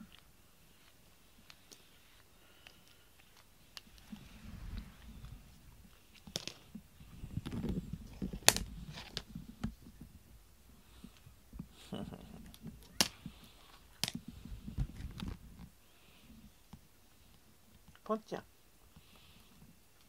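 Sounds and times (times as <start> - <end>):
handling and rustling noise: 0.0 - 10.3, 10.9 - 18.0.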